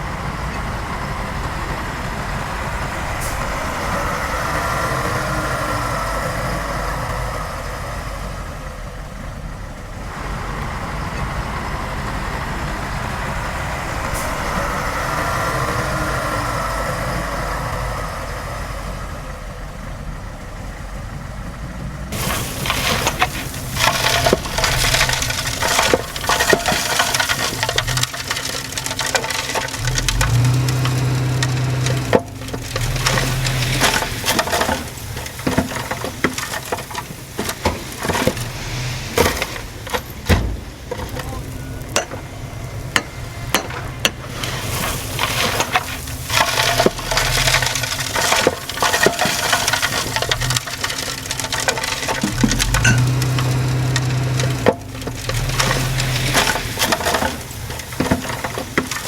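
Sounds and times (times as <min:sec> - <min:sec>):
dense crackling and snapping: 0:00.0 - 0:19.8, 0:21.8 - 0:59.0
diesel engine whining: 0:00.0 - 0:59.0.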